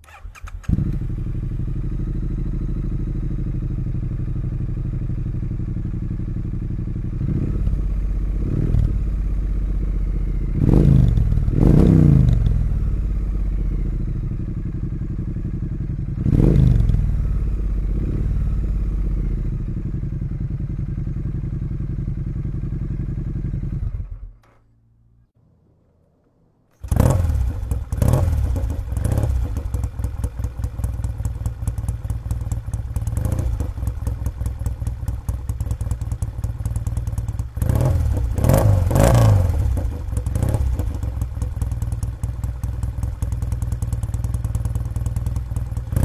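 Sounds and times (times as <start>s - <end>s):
motorcycle engine revving: 0.0s - 24.6s, 26.7s - 46.0s.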